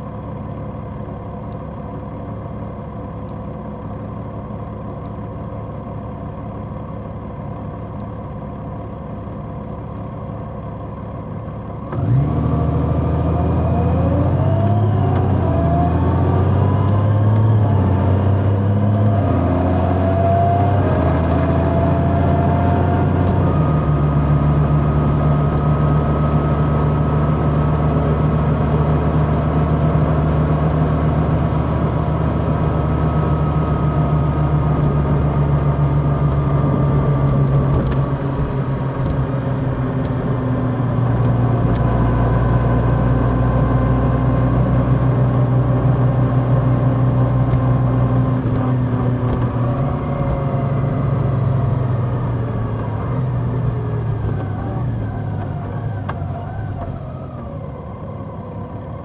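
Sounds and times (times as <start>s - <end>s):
motorcycle engine idling and accelerating: 0.0s - 59.0s.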